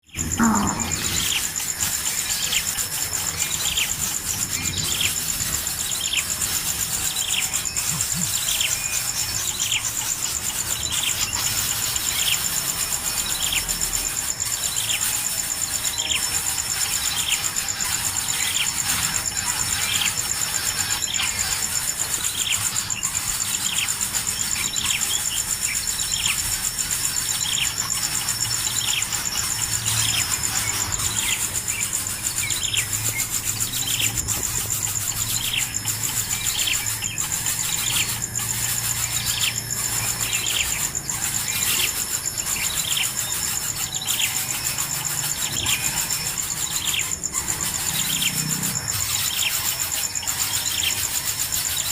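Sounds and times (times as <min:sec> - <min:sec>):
nestling birds begging calls: 0:00.0 - 0:51.9
steady high-pitched whine: 0:00.0 - 0:51.9.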